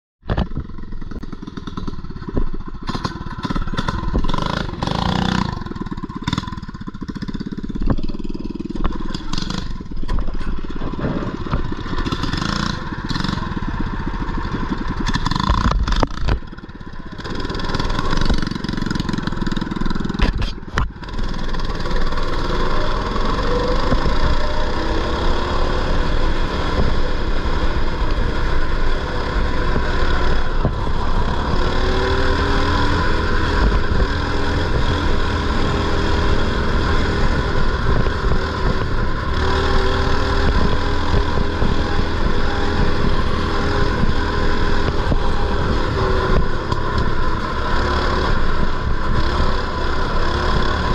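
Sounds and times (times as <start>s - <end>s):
mini bike engines revving: 0.4s - 50.9s.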